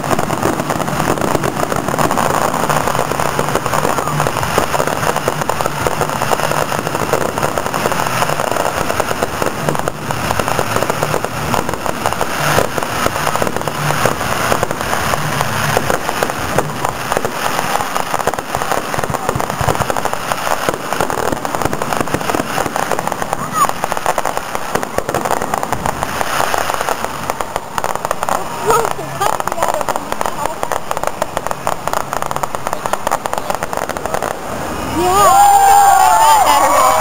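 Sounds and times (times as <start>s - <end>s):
fireworks crackling and popping: 0.0s - 37.0s.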